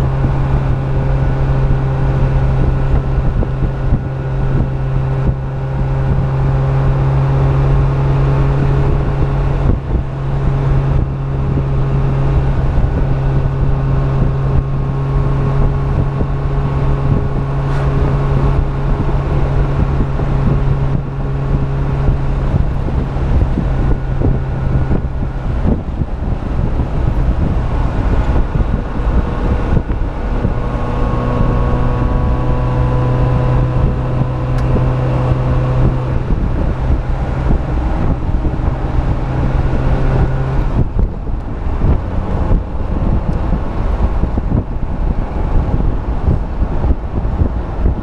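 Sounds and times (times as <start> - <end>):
car engine running: 0.0 - 48.0
wind noise: 0.0 - 48.0.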